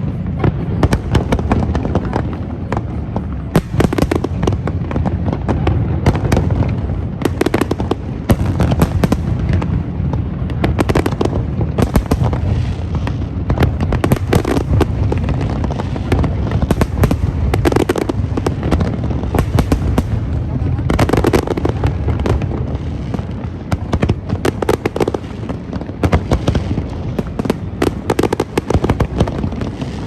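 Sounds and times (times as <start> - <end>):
constant low rumble: 0.0 - 30.0
fireworks bangs and crackles: 0.0 - 30.0.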